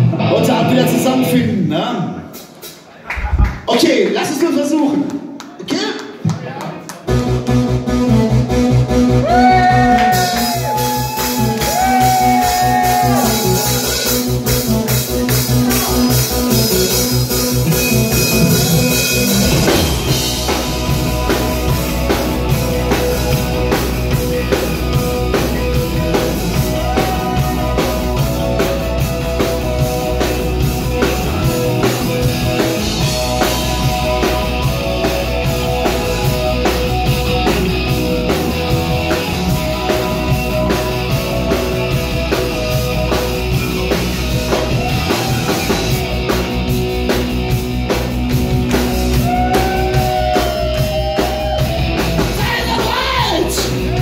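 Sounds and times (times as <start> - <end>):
electric guitar: 0.0 - 1.6, 7.1 - 54.0
bass guitar: 0.0 - 2.4, 7.0 - 54.0
drum kit: 0.0 - 5.4, 6.0 - 54.0
keyboard: 7.0 - 54.0.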